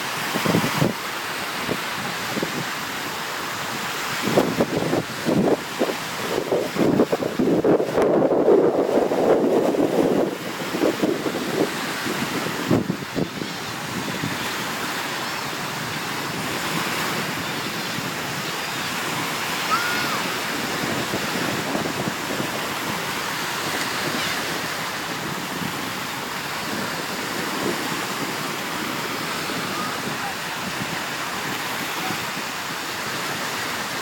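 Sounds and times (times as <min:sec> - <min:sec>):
waves breaking on beach: 0:00.0 - 0:34.0.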